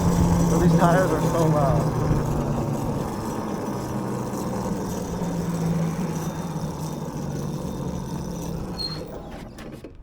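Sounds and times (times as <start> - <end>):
tires rushing on road: 0.0 - 9.6
small gas engine running: 0.0 - 10.0.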